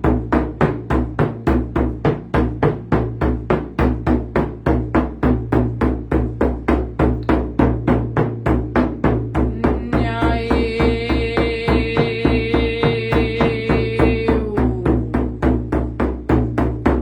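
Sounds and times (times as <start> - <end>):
music with fast drum beat: 0.0 - 17.0.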